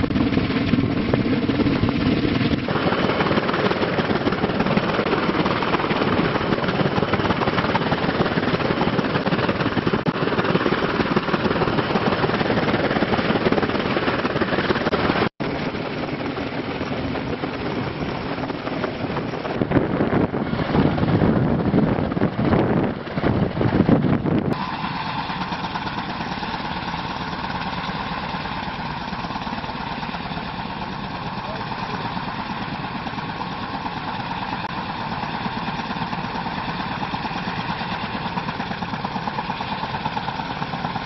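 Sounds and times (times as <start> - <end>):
helicopter hovering: 0.0 - 41.0.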